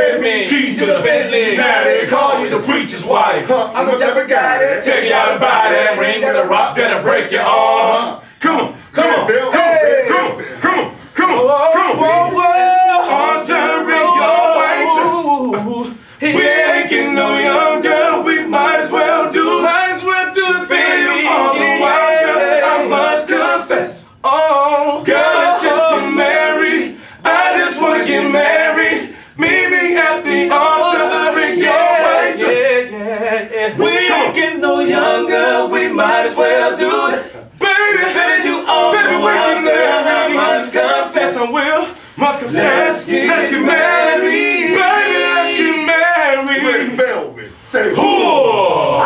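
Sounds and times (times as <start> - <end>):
male vocal group singing a cappella: 0.0 - 49.0.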